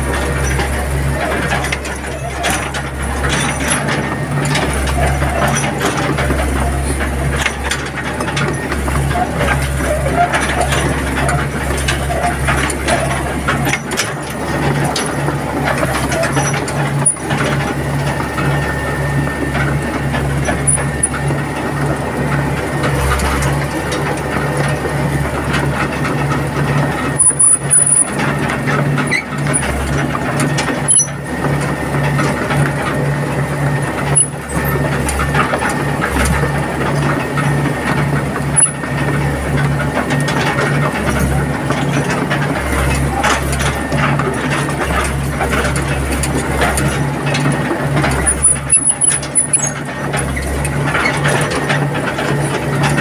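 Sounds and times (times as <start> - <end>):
diesel engine pulsing: 0.0 - 53.0
undercarriage mechanical clatter: 0.0 - 53.0.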